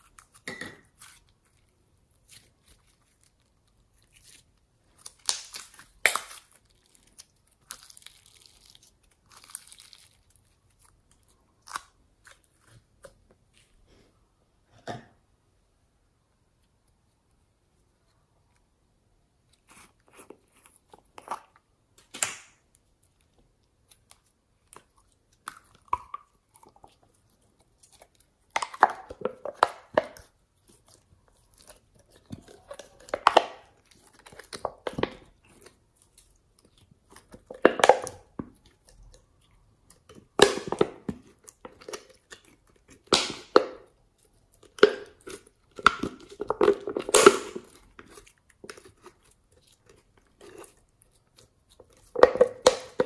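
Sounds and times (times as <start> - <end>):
slime crackling and squelching: 0.0 - 13.7, 19.4 - 53.0.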